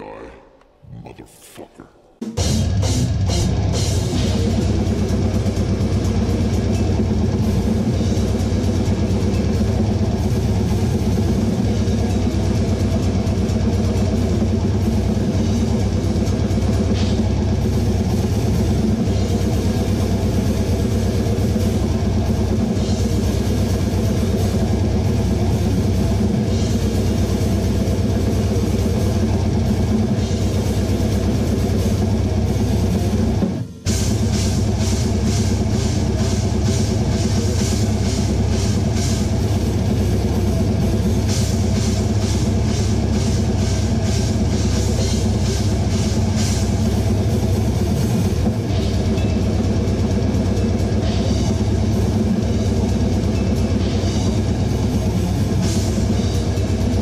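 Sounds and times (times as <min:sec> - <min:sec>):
metal guitars and bass: 0:02.3 - 0:57.0.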